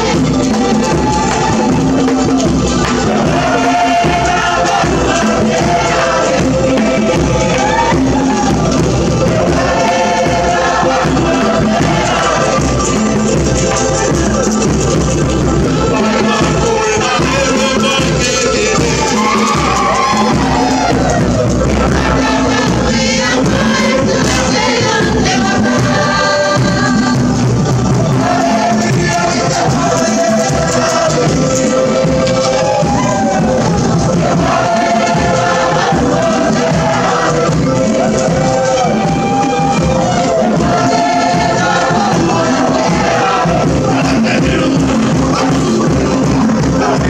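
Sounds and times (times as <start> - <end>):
group of voices chanting: 0.0 - 47.0
percussion: 0.0 - 47.0
steady musical accompaniment: 0.0 - 47.0.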